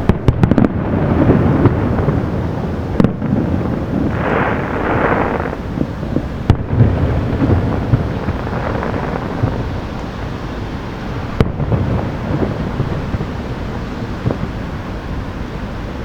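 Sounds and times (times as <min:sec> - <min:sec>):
sharp firework cracks: 0:00.0 - 0:14.8
distant fireworks booming: 0:00.0 - 0:16.0.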